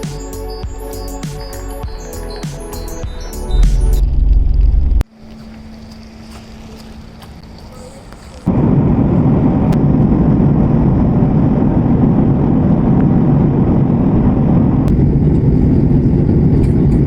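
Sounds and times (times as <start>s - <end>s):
moving vehicle rumble: 0.9s - 17.0s.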